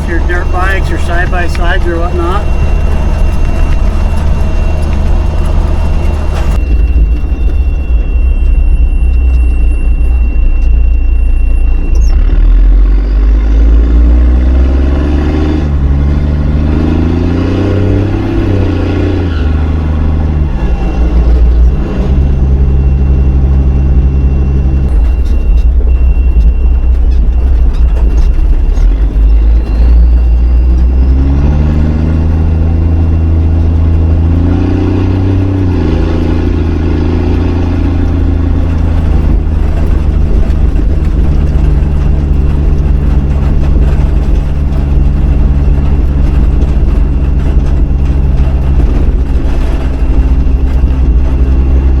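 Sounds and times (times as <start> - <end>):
truck engine running under load: 0.0 - 52.0.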